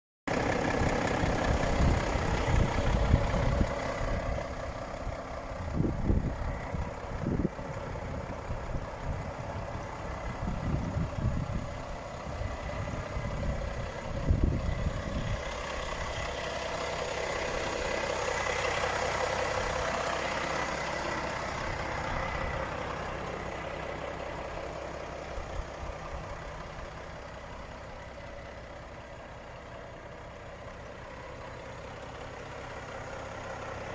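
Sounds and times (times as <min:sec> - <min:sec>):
diesel truck engine idling: 0:00.3 - 0:33.9.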